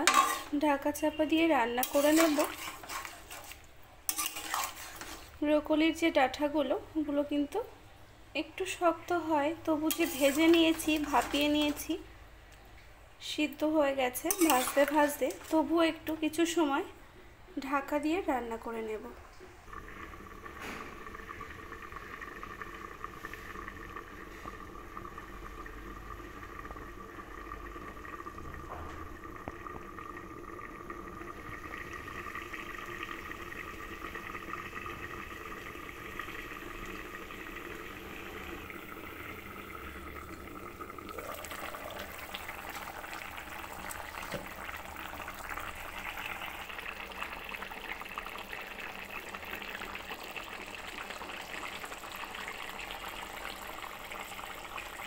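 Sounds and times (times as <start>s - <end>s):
curry boiling in a pan: 0.0s - 13.0s, 13.6s - 17.0s, 17.7s - 55.0s.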